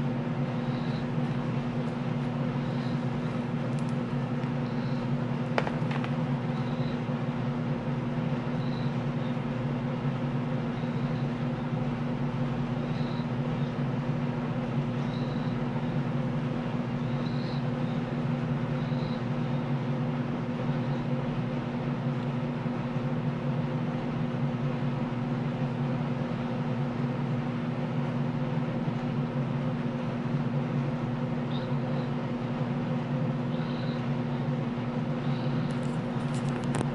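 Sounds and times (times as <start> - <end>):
low mechanical hum: 0.0 - 36.9.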